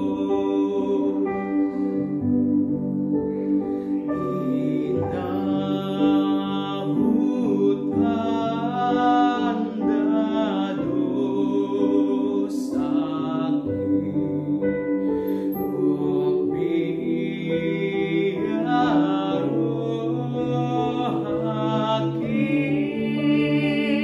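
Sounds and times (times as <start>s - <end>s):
sustained backing chords: 0.0s - 24.0s.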